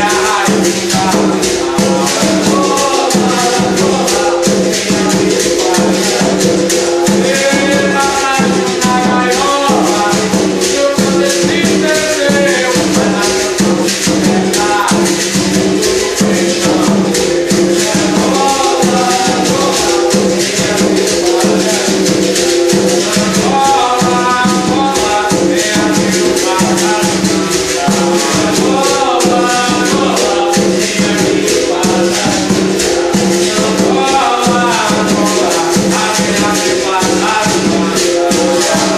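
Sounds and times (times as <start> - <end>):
berimbau playing: 0.0 - 38.9
hand drum beating: 0.0 - 38.9
person singing: 0.0 - 38.9
shaker rattling: 0.0 - 38.9.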